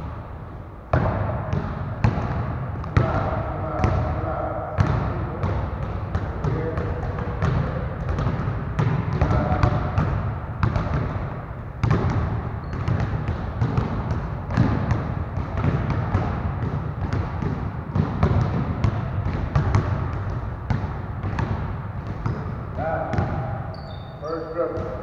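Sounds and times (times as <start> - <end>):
basketballs bouncing on gym floor: 0.9 - 25.0.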